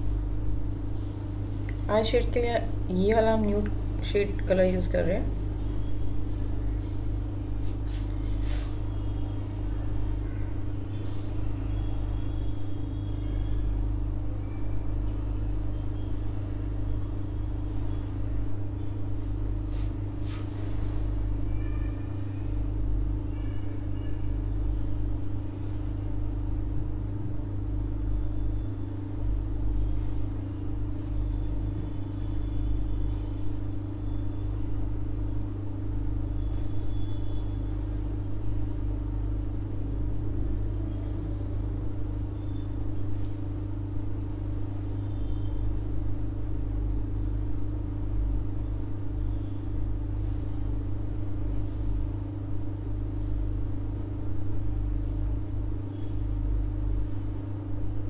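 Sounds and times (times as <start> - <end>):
low rumble and hum: 0.0 - 58.0.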